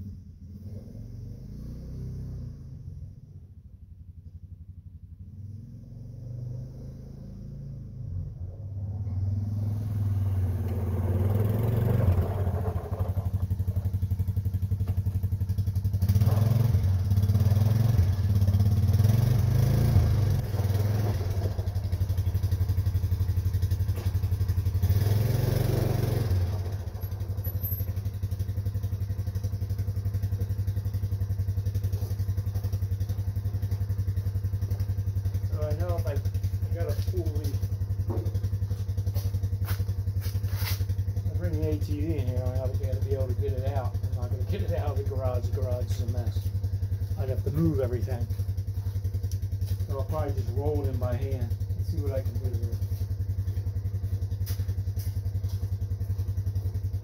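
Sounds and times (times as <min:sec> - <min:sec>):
vehicle engine revving: 0:00.0 - 0:03.4, 0:05.2 - 0:57.0.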